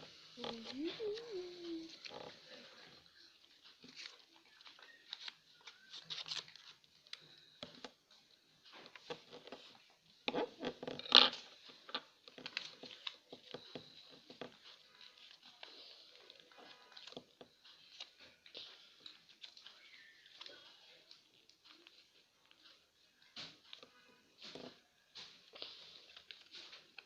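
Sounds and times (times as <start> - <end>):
paper rustling and crinkling: 0.4 - 8.0, 10.6 - 27.0.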